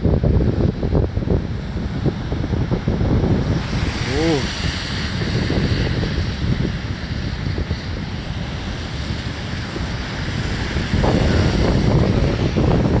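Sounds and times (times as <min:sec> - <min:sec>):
heavy surf breaking on a beach: 0:00.0 - 0:13.0
wind buffeting the microphone: 0:00.0 - 0:13.0.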